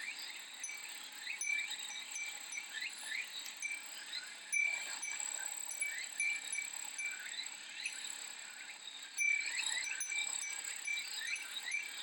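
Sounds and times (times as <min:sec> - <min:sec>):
glass wind chime ringing: 0:00.6 - 0:08.0, 0:09.2 - 0:12.0.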